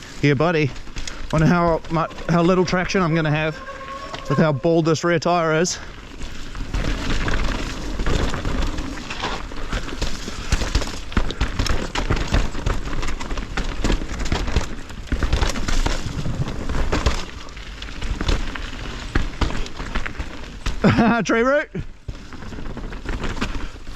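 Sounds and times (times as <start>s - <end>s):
bike rattling: 0.0s - 23.9s
bike tyres skidding on dirt: 0.0s - 23.9s.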